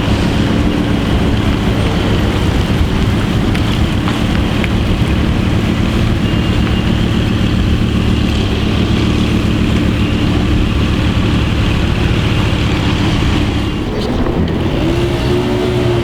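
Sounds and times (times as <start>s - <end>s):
higher engine note: 0.0s - 16.0s
supercar engine running: 0.0s - 16.0s.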